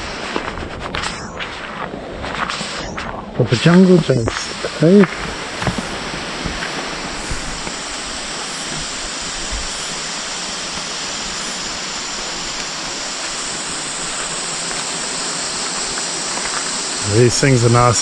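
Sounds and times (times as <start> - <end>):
high hiss: 0.0 - 1.7, 2.3 - 18.0
flowing water rushing: 3.6 - 18.0.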